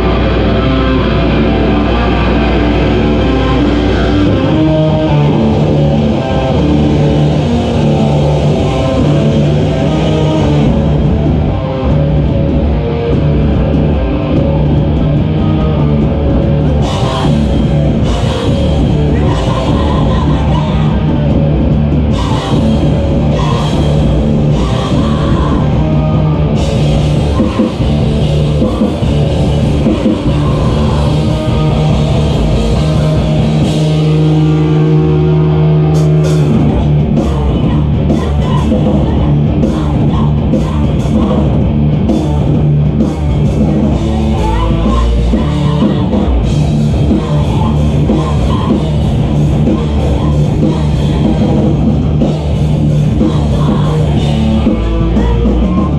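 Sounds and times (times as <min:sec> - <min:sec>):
heavy rock band playing: 0:00.0 - 0:55.9.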